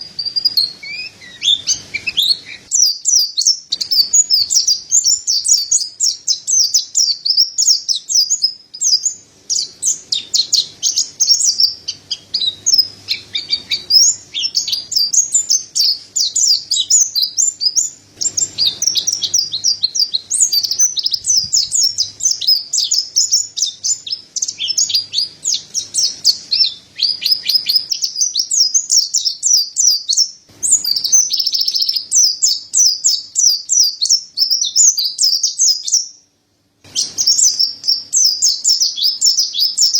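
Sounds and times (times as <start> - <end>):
bird twittering and trilling: 0.0 - 36.2, 36.9 - 39.9.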